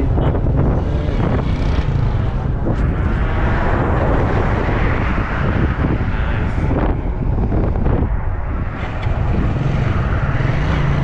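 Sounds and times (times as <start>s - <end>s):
vehicle passing: 0.0s - 11.0s
wind rushing over microphone: 0.0s - 11.0s.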